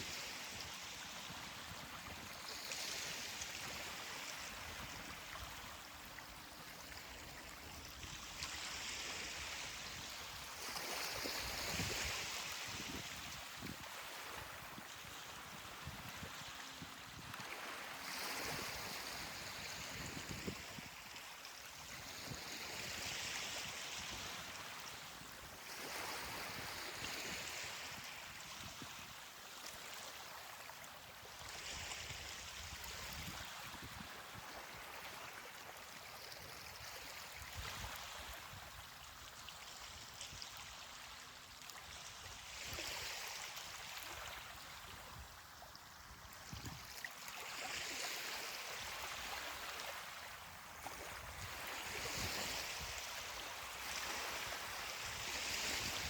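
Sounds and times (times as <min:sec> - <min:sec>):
ocean waves washing up beach: 0:00.0 - 0:56.0.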